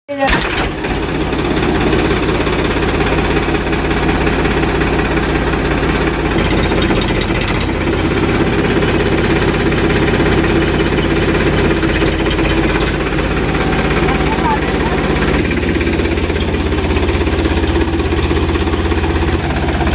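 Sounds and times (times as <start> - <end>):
tractor diesel engine running: 0.1 - 19.9.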